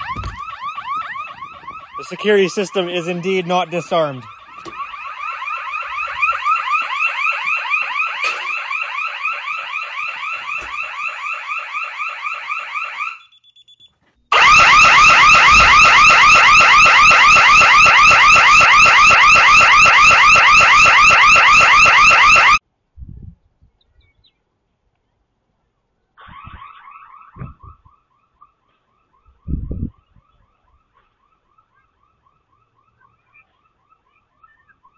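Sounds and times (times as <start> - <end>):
alarm siren warbling: 0.0 - 13.4, 14.3 - 22.6, 26.2 - 34.9.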